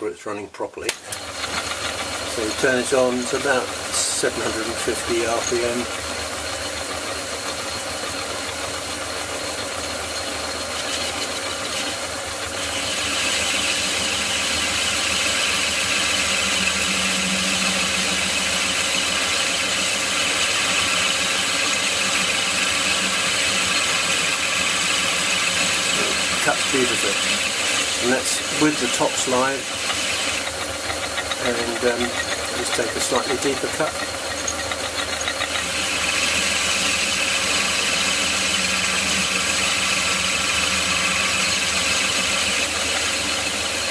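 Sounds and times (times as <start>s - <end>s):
lathe running: 1.0s - 43.9s
high-pitched metal cutting noise: 1.4s - 43.9s.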